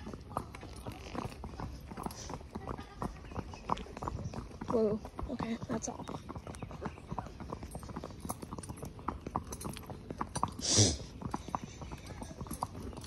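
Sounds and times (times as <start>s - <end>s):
hooves clip-clopping on asphalt: 0.0s - 13.0s.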